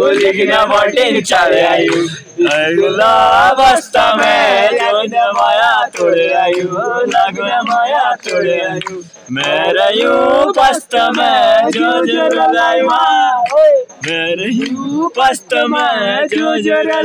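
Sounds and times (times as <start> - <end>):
group of men singing: 0.0 - 17.0.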